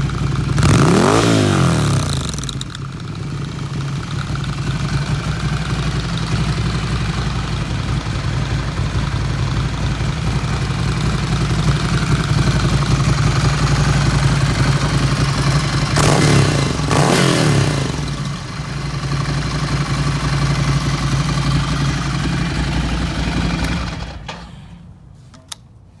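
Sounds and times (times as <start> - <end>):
motorcycle engine running and revving: 0.0 - 24.4.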